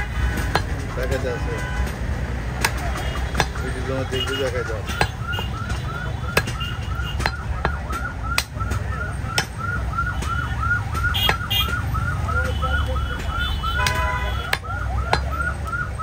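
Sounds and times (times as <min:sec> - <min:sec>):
cleaver chopping on wooden block: 0:00.0 - 0:16.0.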